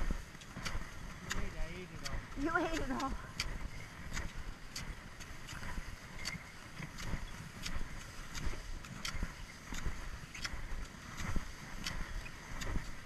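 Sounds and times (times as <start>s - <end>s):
ski pole tips clicking: 0.0s - 13.0s
skis sliding over snow: 0.0s - 13.0s.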